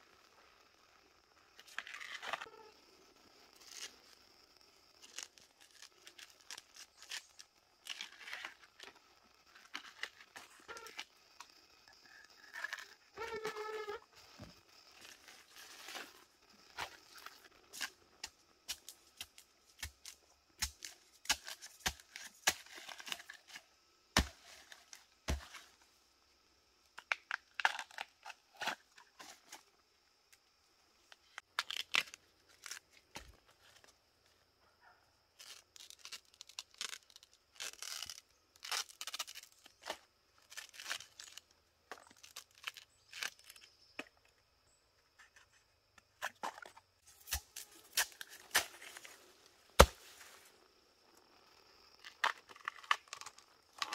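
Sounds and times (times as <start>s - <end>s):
bamboo husks crackling and tearing: 1.5s - 2.7s, 3.3s - 25.8s, 27.0s - 30.4s, 31.1s - 34.4s, 35.4s - 44.2s, 45.2s - 50.6s, 51.2s - 53.9s.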